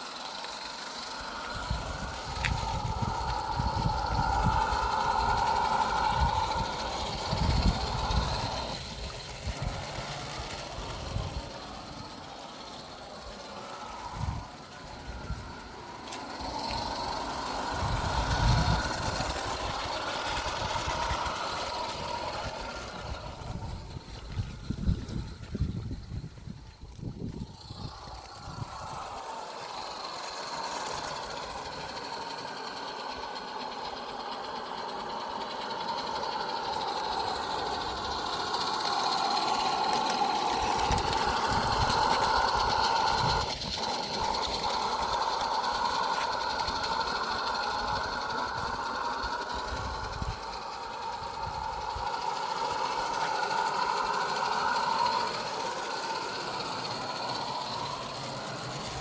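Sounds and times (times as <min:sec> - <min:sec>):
steam engine hissing: 0:00.0 - 0:59.0
wheels rattling on track: 0:00.0 - 0:59.0.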